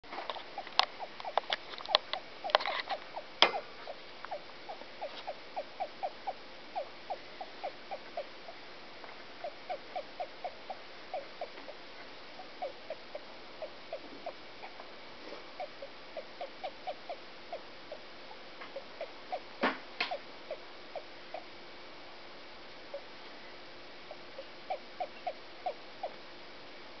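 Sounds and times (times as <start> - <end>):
hamster hiccuping squeakily: 0.3 - 8.6, 9.4 - 14.8, 15.5 - 21.6, 24.1 - 26.2.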